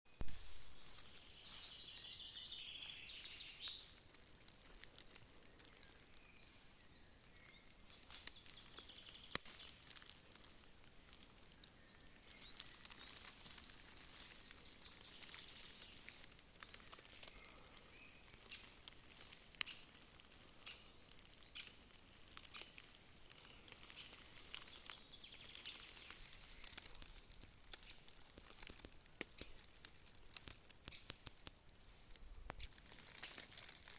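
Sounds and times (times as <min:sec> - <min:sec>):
light ticks and crackles: 0:00.2 - 0:33.9.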